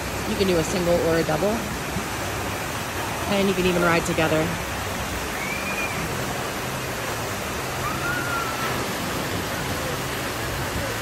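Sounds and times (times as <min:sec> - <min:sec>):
water pouring into a pool: 0:00.0 - 0:11.0.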